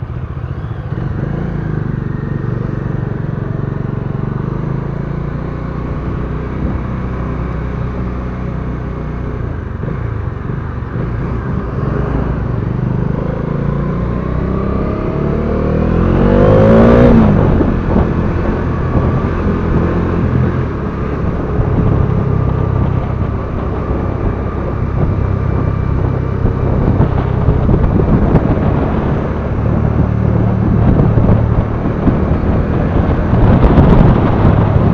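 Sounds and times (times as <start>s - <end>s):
engine revving to a peak: 0.0s - 34.9s
motorcycle engine running: 0.0s - 34.9s.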